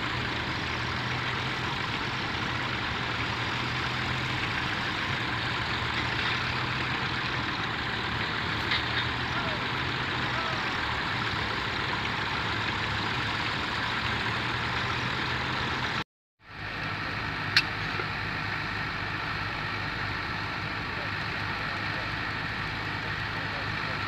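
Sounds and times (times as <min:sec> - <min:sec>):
noisy field background: 0:00.0 - 0:24.0
tractor engines humming: 0:00.0 - 0:24.0.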